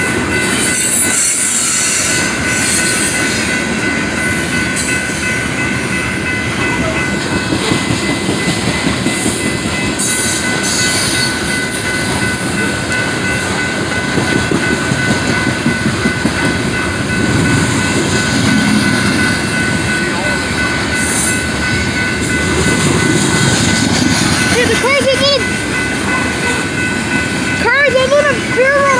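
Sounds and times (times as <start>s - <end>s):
clickety-clack of train: 0.0s - 28.9s
train wheels rumbling on rails: 0.0s - 28.9s.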